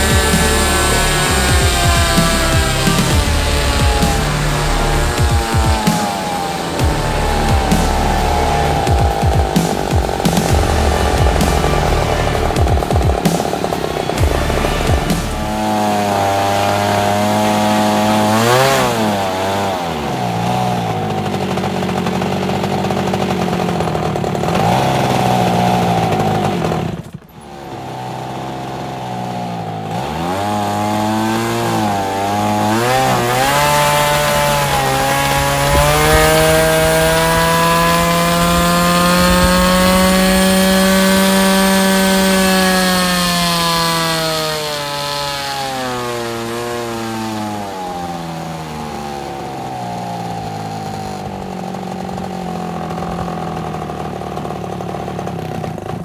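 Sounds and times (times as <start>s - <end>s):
model airplane engine revving: 0.0s - 56.0s.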